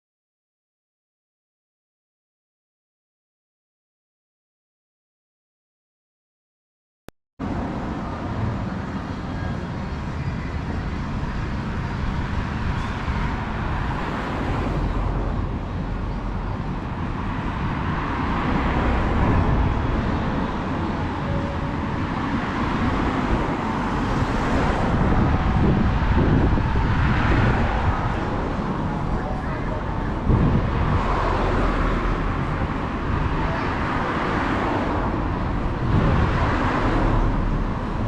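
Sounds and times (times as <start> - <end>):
steady road traffic: 7.4 - 38.0
wind rumbling on microphone: 7.4 - 38.0.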